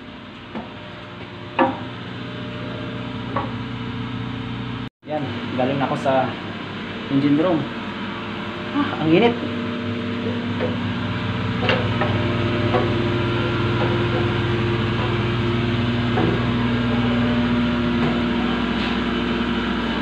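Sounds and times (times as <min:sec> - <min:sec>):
engine room machinery drone: 0:00.0 - 0:20.0.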